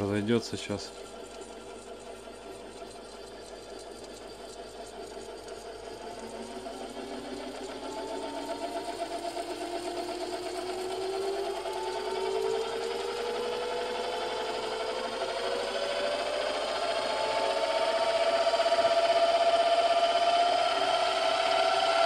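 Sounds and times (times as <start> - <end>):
milling machine gearbox whining: 0.0 - 22.0.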